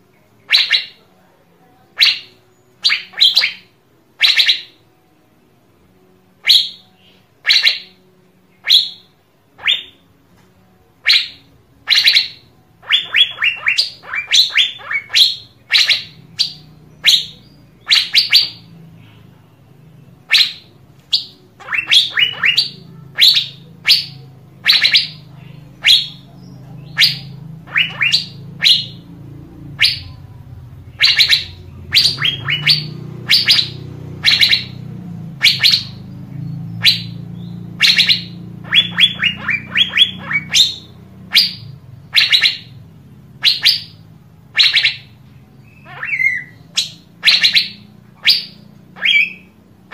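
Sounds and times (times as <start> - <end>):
low steady hum: 0.0 - 49.9
bird calling high notes: 0.2 - 1.2, 1.9 - 5.0, 6.3 - 10.2, 10.8 - 49.9.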